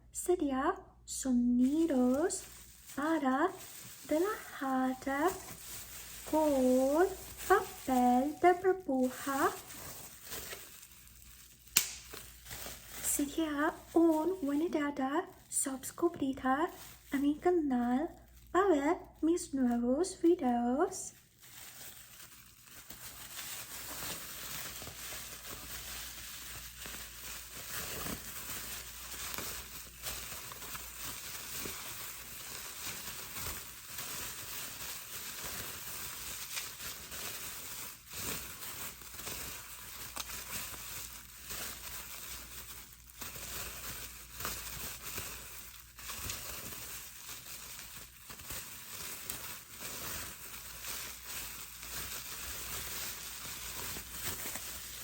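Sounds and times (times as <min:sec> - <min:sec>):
bubble wrap crinkling and popping: 0:01.3 - 0:55.0.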